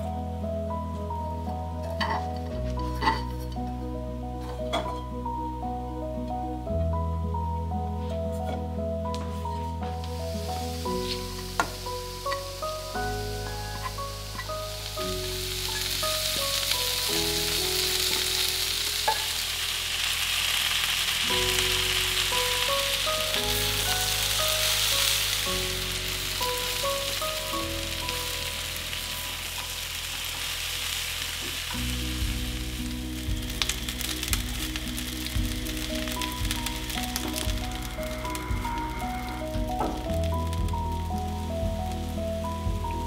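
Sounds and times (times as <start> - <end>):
food sizzling in a wok: 0.0 - 5.3, 9.2 - 43.0
background piano music: 0.0 - 43.0.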